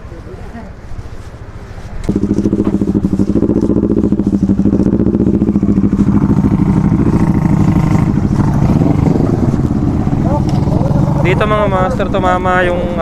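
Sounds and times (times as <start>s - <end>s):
motorcycle engine running: 2.0s - 13.0s.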